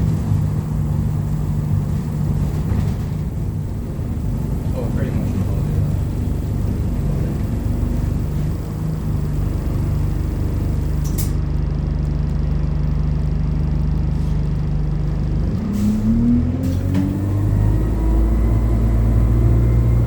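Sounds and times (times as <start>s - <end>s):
bus diesel engine: 0.0s - 20.0s.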